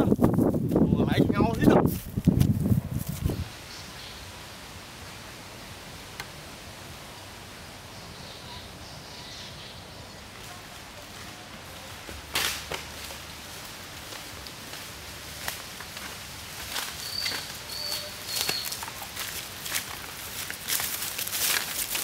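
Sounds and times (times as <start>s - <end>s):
forest ambience hiss: 3.1s - 22.0s.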